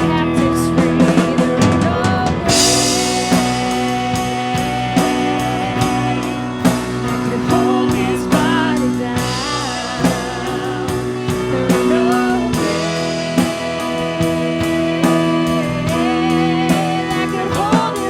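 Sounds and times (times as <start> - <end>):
drum kit beats: 0.0 - 18.0
guitar: 0.0 - 18.0
person singing: 0.0 - 18.0.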